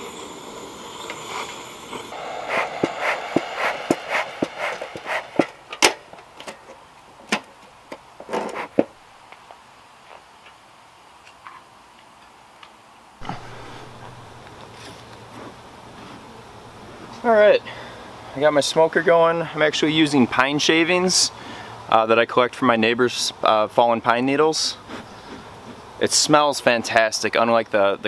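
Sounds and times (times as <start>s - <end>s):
outdoor background: 0.0s - 20.2s, 21.0s - 28.0s.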